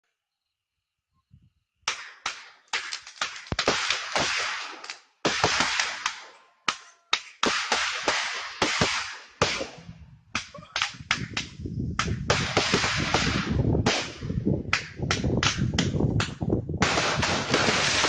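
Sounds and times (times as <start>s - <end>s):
fireworks bangs: 1.9s - 18.0s.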